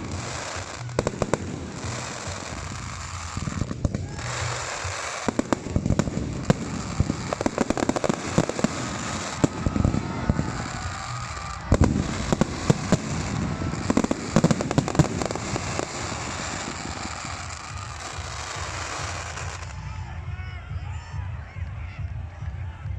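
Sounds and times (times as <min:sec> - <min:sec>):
fireworks bangs and crackles: 0:00.0 - 0:22.4.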